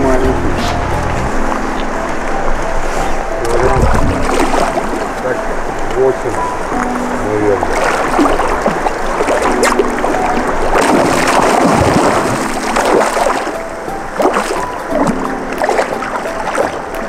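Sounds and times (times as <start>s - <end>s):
music with long held notes: 0.0s - 17.0s
river water flowing: 0.0s - 17.0s
water splashing: 0.0s - 17.0s.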